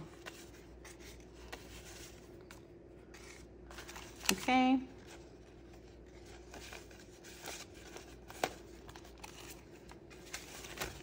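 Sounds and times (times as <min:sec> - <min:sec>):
banknotes rustling: 0:00.0 - 0:11.0.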